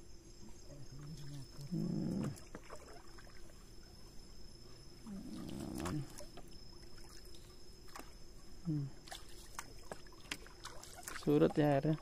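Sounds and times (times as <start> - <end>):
small splashes and drips: 1.0 - 4.1, 5.1 - 12.0
muddy water sloshing and splashing: 1.0 - 12.0.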